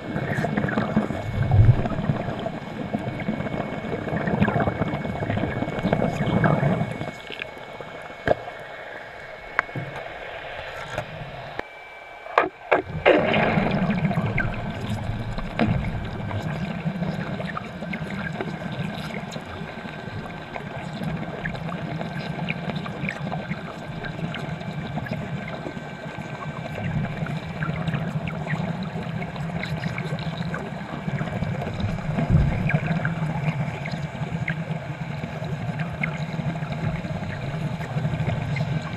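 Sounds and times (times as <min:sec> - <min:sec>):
underwater bubbling and gurgling: 0:00.0 - 0:11.6, 0:12.4 - 0:38.9.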